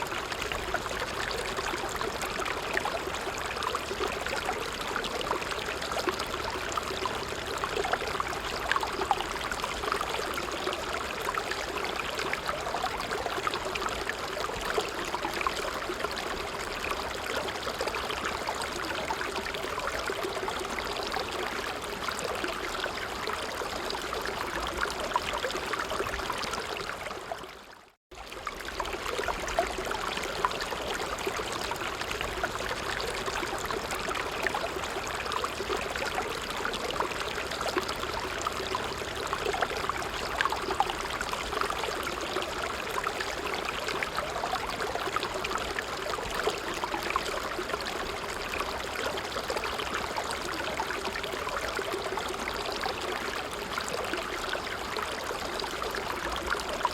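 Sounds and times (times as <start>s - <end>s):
brook babbling over stones: 0.0s - 56.9s.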